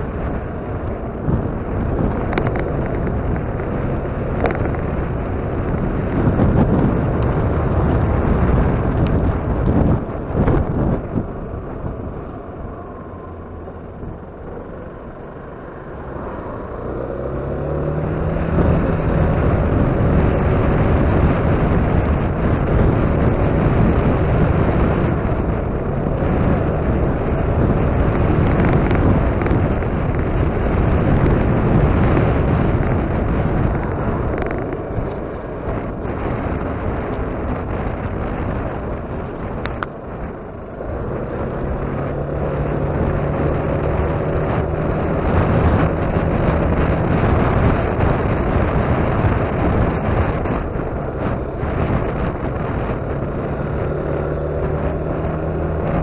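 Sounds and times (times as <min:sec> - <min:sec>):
scooter engine running: 0:00.0 - 0:56.0
wind rush: 0:00.0 - 0:56.0.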